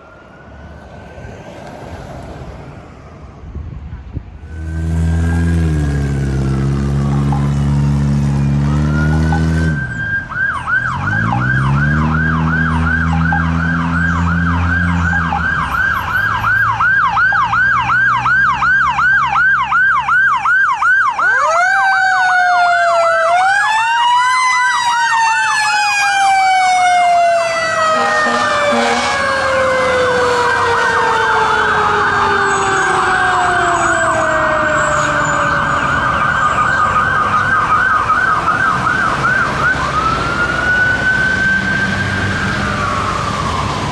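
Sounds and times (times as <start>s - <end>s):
fire truck engine pulling hard: 4.4s - 43.9s
mechanical siren wailing: 4.4s - 43.9s
electronic siren yelping: 4.5s - 43.9s.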